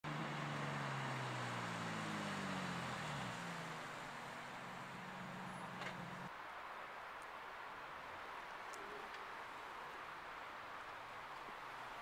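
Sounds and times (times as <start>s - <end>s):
tyres hissing on wet road: 0.1s - 12.0s.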